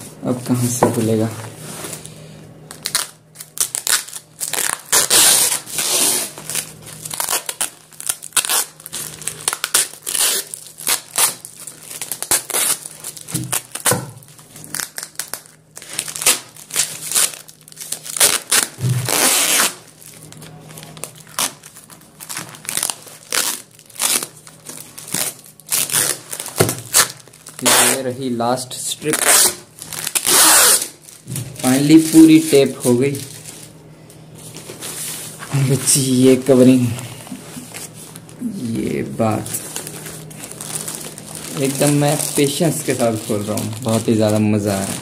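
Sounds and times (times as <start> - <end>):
packing tape ripping: 2.7 - 28.1, 29.0 - 33.7, 37.6 - 45.0
plastic mailer crinkling: 2.7 - 33.8, 34.5 - 45.0.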